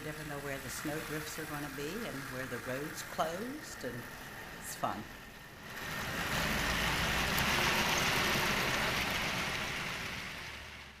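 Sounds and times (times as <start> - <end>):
low motor hum: 0.0 - 11.0
model train wheels rattling on track: 0.0 - 11.0.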